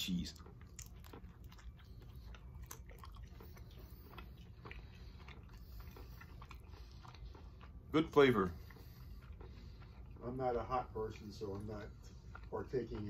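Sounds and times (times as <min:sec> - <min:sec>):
low steady hum: 0:00.0 - 0:13.0
person chewing with wet clicks: 0:00.0 - 0:13.0.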